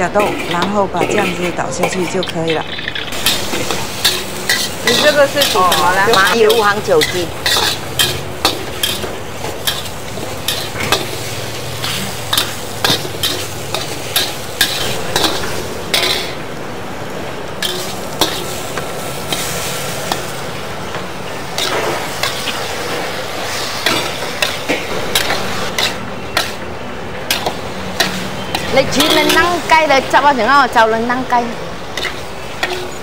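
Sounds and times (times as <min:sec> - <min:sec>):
metal spatula scraping in a wok: 0:00.0 - 0:16.4, 0:17.6 - 0:20.5, 0:21.4 - 0:30.0, 0:31.9 - 0:33.0
chicken sizzling in oil: 0:00.0 - 0:33.0.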